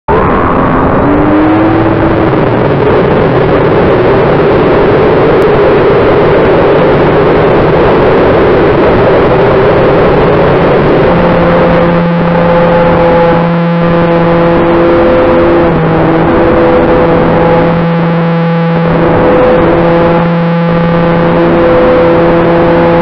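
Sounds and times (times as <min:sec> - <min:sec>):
wind rushing: 0:00.1 - 0:23.0.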